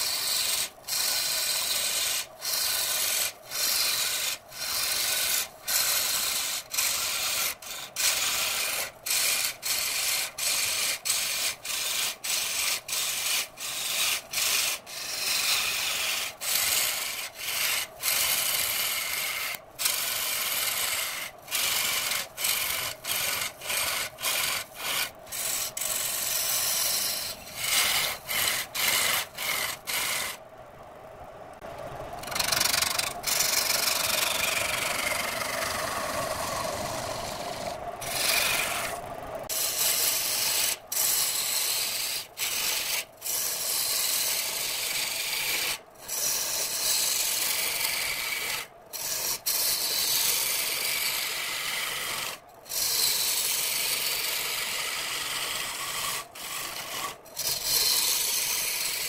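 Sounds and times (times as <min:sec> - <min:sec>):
lathe tool scraping wood: 0:00.0 - 0:30.4, 0:32.2 - 0:59.0.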